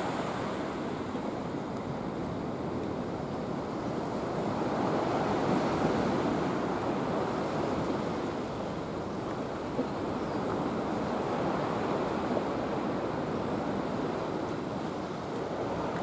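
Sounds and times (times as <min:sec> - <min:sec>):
surf washing against breakwater: 0:00.0 - 0:16.0.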